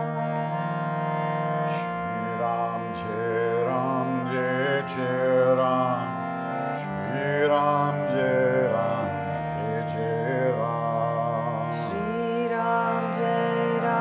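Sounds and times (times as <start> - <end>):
harmonium drone: 0.0 - 14.0
person chanting: 0.0 - 14.0.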